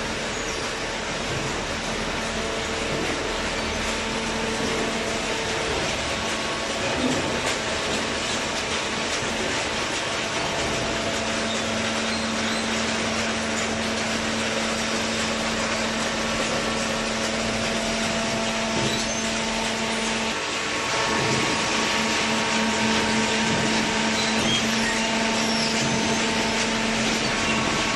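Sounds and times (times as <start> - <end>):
baler mechanical noise: 0.0 - 27.9
low machine hum: 0.0 - 27.9.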